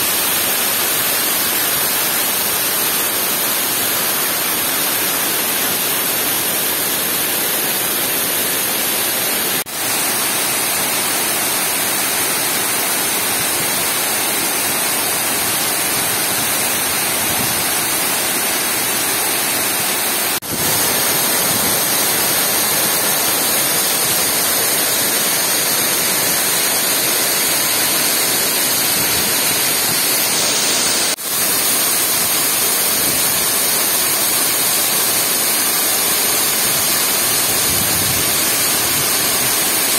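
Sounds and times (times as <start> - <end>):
water rushing down dam spillway: 0.0 - 39.9.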